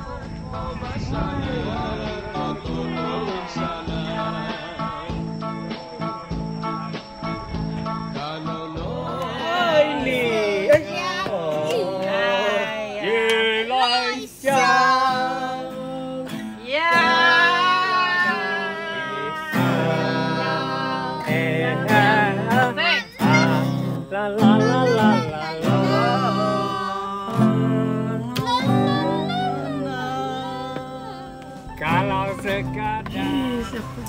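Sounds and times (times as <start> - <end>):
person singing: 0.0 - 6.2, 8.2 - 34.0
strummed acoustic guitar: 0.3 - 34.0.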